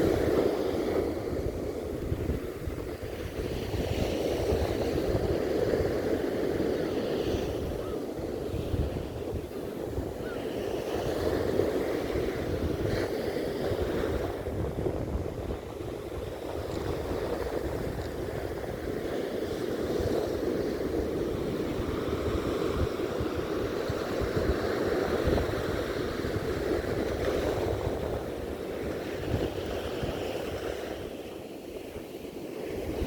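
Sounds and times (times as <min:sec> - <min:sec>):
wind buffeting microphone: 0:00.0 - 0:31.2
sea waves washing onto beach: 0:00.0 - 0:33.0.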